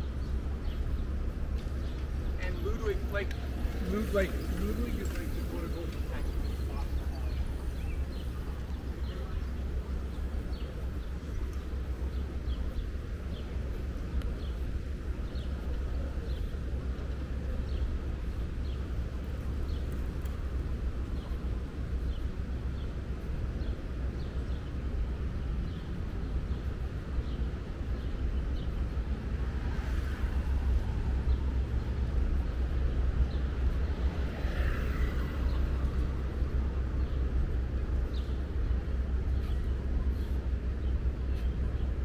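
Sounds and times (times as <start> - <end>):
low outdoor rumble: 0.0 - 42.0
small birds chirping: 0.0 - 42.0.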